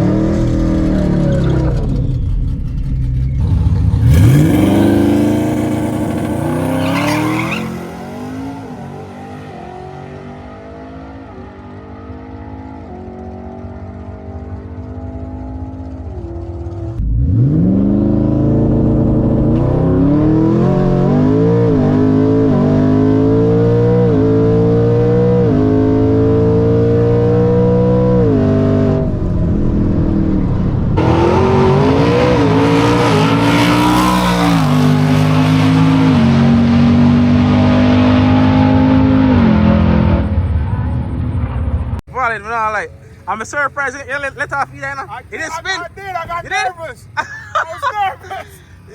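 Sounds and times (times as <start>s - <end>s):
truck engine accelerating hard: 0.0s - 48.9s.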